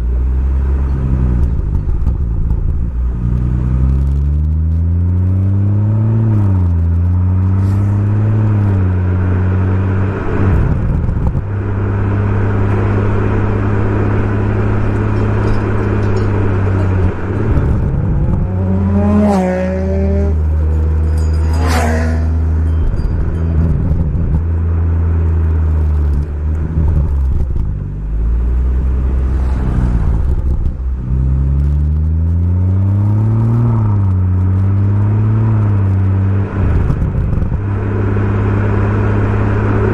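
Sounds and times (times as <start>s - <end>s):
car exhaust on the move: 0.0s - 39.9s.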